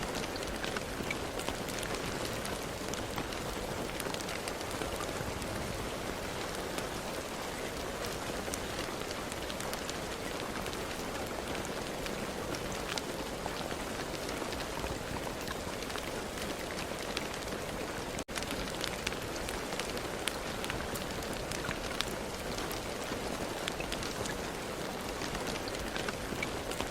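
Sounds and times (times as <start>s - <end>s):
rain falling: 0.0s - 26.9s
sharp raindrop ticks: 0.0s - 26.9s.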